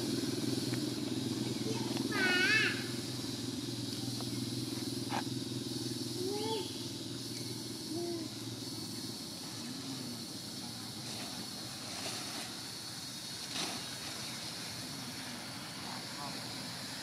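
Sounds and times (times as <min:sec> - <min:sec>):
small motor engine running: 0:00.0 - 0:17.0.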